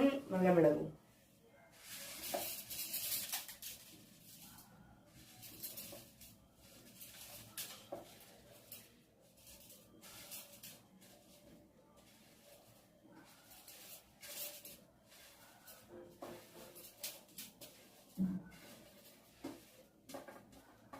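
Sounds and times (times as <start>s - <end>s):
dry spices rattling in a jar: 1.8s - 20.9s.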